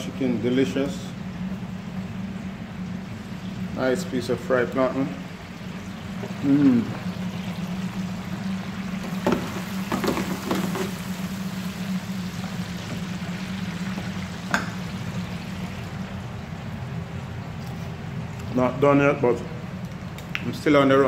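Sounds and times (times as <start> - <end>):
deep-fryer oil sizzling: 0.0 - 18.8
continuous hiss: 0.0 - 21.0
kitchen equipment hum: 0.0 - 21.0.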